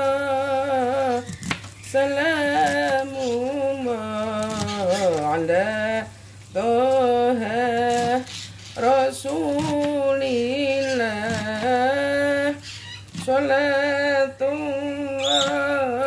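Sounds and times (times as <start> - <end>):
woman singing devotional chant: 0.0 - 16.0.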